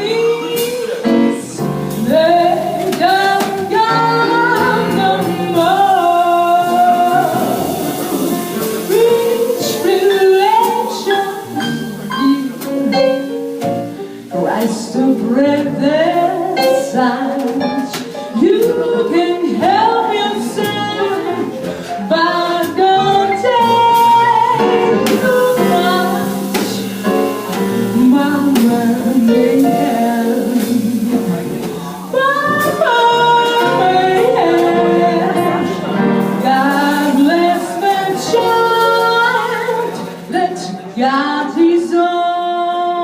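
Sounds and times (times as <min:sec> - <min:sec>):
instrumental accompaniment: 0:00.0 - 0:43.0
woman singing: 0:00.0 - 0:43.0.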